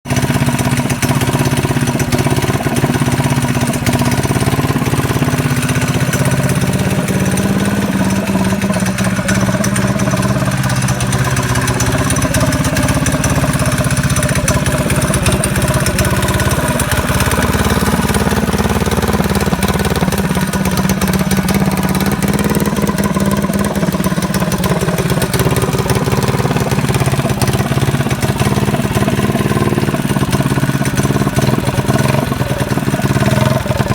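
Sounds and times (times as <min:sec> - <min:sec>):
minibike engine idling: 0:00.0 - 0:33.9.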